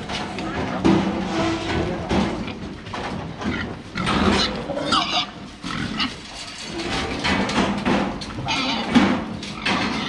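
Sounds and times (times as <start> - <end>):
pigs grunting and squealing: 0.0 - 10.0.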